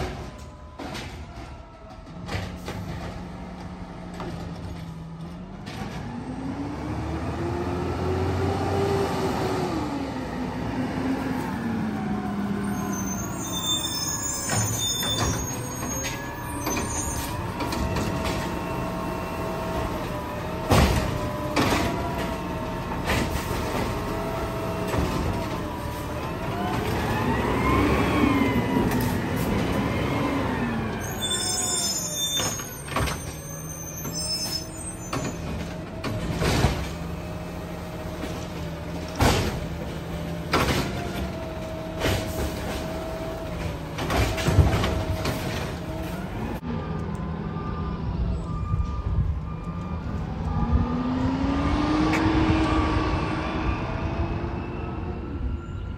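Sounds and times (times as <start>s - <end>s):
garbage truck engine revving: 2.0s - 47.6s.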